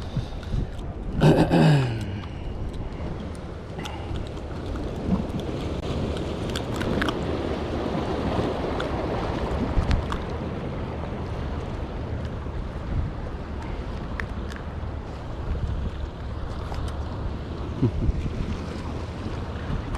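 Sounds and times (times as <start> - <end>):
sea waves against rocks: 0.0 - 19.9
wind buffeting microphone: 0.0 - 19.9.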